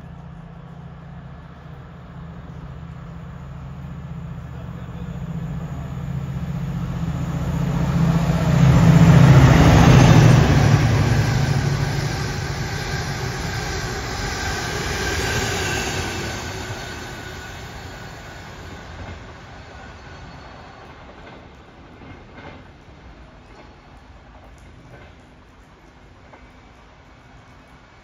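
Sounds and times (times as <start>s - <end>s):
coaches rolling on rails: 0.0s - 28.0s
diesel locomotive passing: 0.0s - 28.0s.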